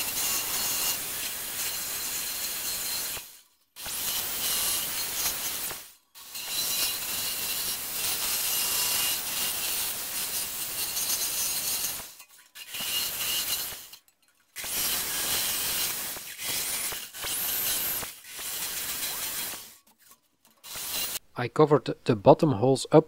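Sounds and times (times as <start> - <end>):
power tool grinding metal sheet: 0.0 - 19.9, 20.5 - 21.2.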